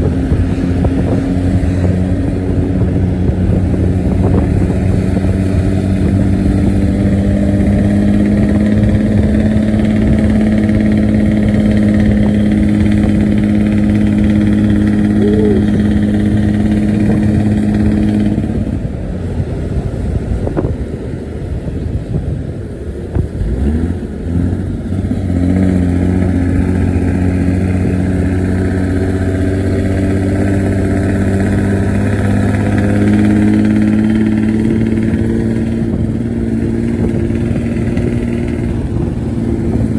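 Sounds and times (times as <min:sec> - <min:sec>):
bus engine humming: 0:00.0 - 0:39.9.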